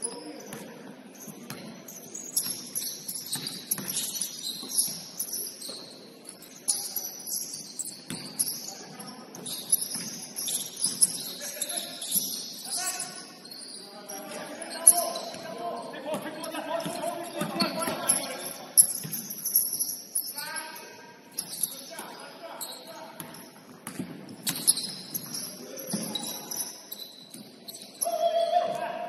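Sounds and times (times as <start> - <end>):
sneakers squeaking on court: 0.0 - 28.8.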